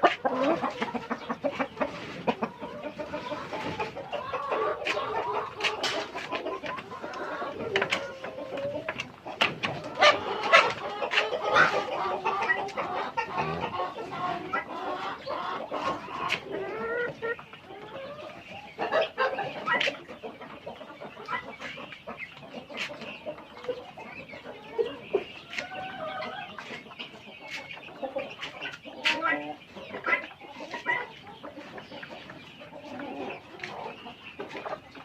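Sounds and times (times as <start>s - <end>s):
chickens clucking and calling: 0.0s - 35.0s.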